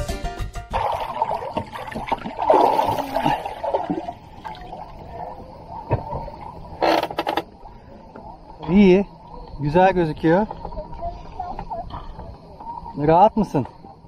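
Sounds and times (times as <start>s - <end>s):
seawater splashing and lapping: 0.7s - 13.2s.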